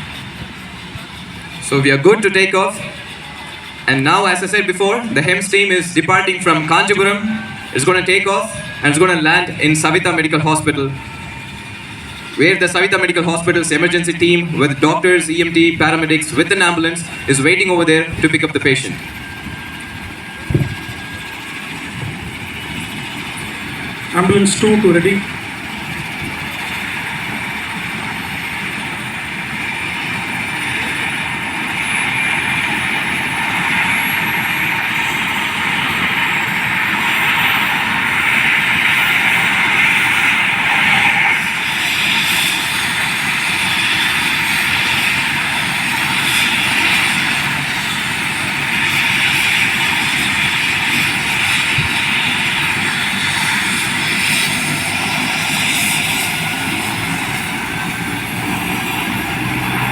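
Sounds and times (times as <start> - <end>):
helicopter engine and rotor running: 0.0 - 59.9.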